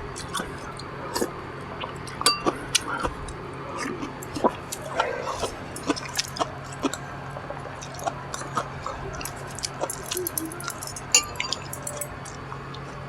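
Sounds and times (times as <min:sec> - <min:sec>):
chewing with crisp crunches: 0:00.0 - 0:13.0.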